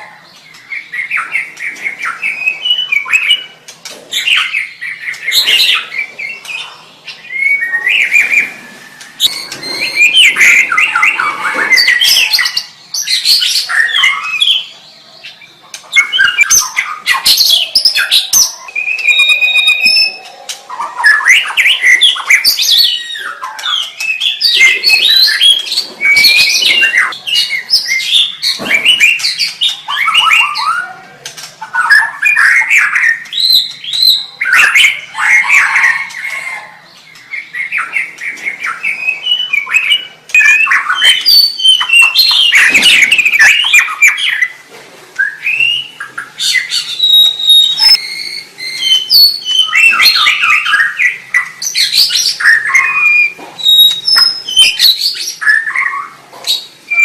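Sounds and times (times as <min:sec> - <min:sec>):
bird singing whistles and chatters: 0:00.0 - 0:44.6, 0:45.2 - 0:57.0.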